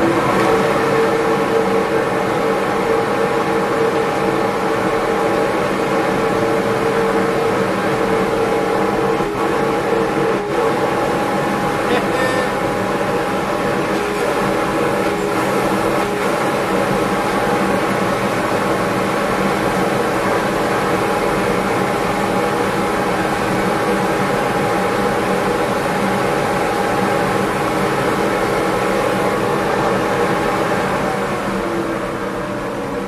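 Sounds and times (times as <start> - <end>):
dust collector whine: 0.0 - 33.0.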